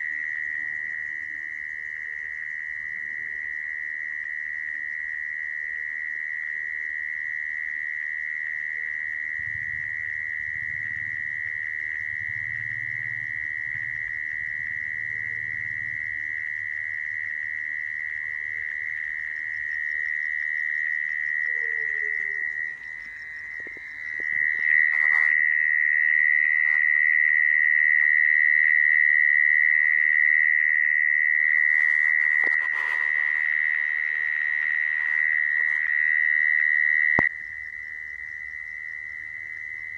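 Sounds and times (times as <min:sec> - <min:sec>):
mole cricket buzzing trill: 0:00.0 - 0:39.9.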